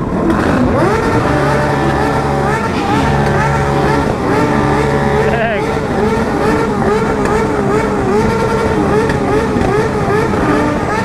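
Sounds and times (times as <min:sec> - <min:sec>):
motorcycle engine revving: 0:00.0 - 0:11.0
rumble of motorcycles: 0:00.0 - 0:11.0.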